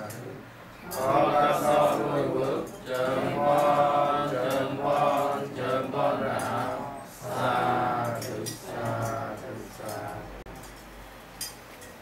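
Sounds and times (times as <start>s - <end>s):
man chanting: 0.0s - 10.4s.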